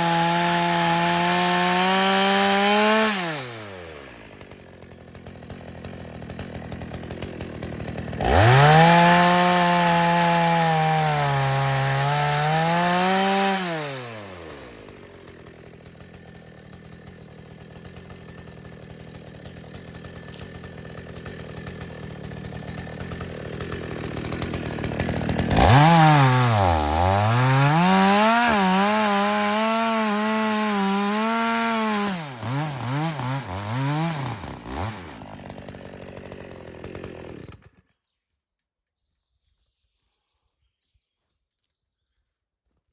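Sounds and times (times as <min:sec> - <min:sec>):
chainsaw revving: 0:00.0 - 0:38.0.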